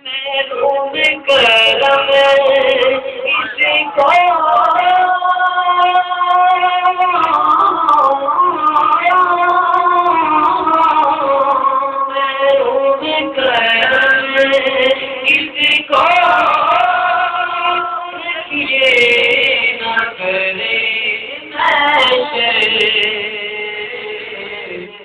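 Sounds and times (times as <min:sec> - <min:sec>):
man singing unaccompanied: 0:00.0 - 0:25.0.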